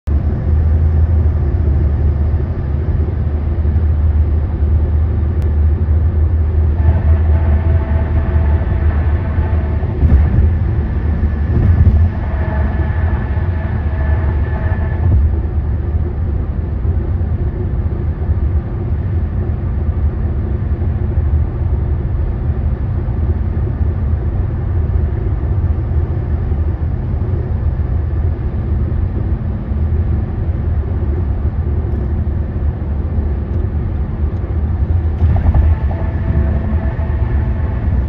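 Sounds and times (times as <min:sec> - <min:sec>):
humming tyre whine on bridge: 0:00.0 - 0:38.0.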